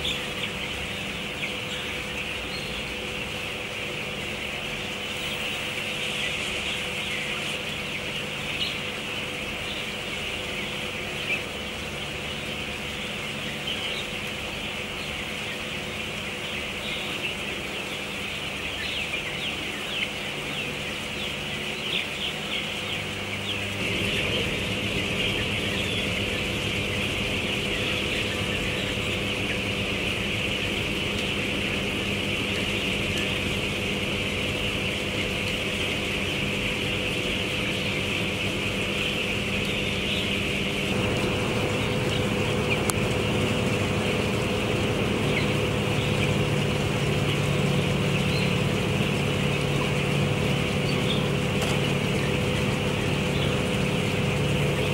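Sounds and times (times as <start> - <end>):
chickens cheeping: 0.0 - 54.9
mechanical hum: 0.0 - 54.9.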